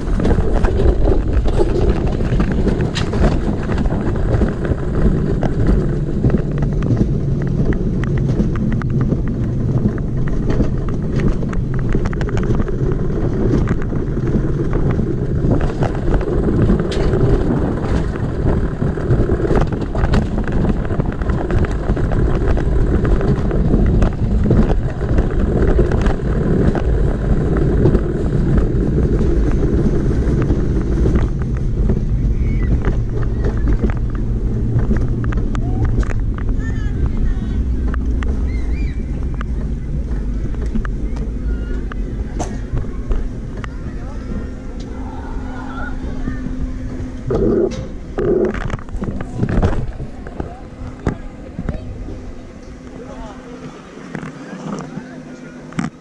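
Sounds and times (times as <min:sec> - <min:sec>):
small clicks and rattles: 0:00.0 - 0:45.0
wheels rumbling on rails: 0:00.0 - 0:56.0.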